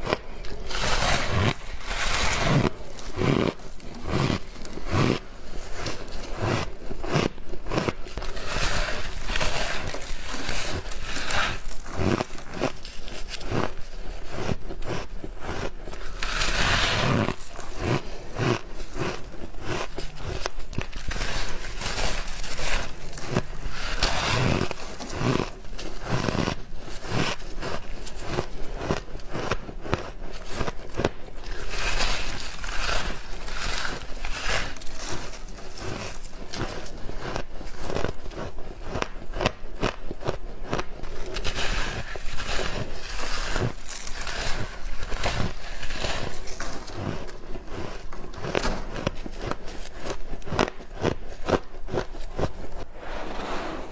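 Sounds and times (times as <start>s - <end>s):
chewing crunchy ice: 0.0s - 52.9s.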